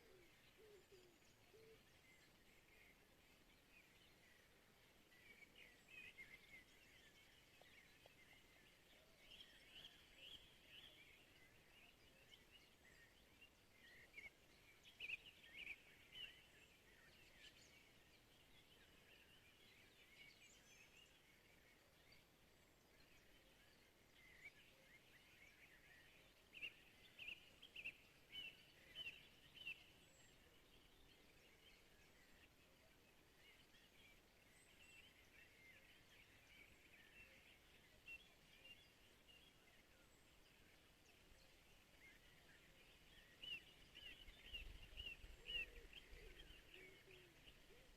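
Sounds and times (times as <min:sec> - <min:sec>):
faint songbirds chirping: 0:00.0 - 0:47.9.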